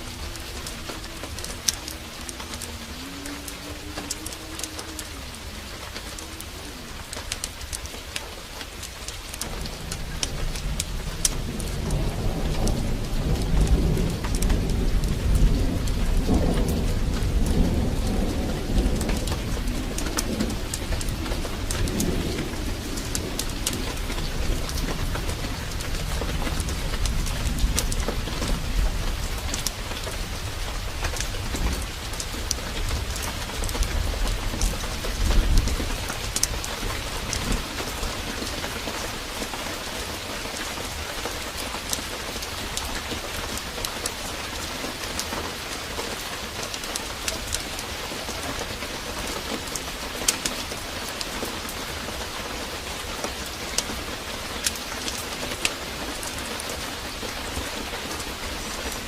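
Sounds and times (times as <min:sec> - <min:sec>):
heavy rain: 0:00.0 - 0:59.0
thunder rumble: 0:00.0 - 0:59.0.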